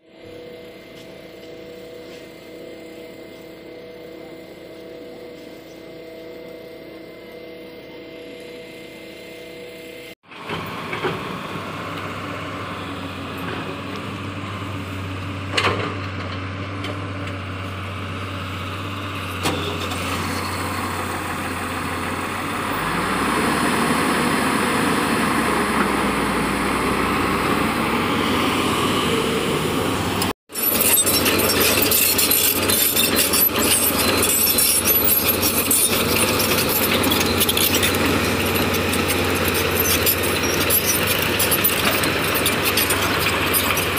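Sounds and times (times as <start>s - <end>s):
diesel machinery engines droning: 0.0s - 43.9s.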